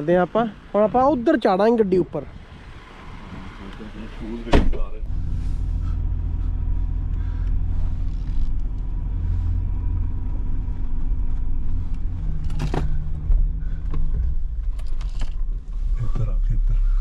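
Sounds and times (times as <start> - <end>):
engine and drivetrain rumble: 0.0 - 17.0.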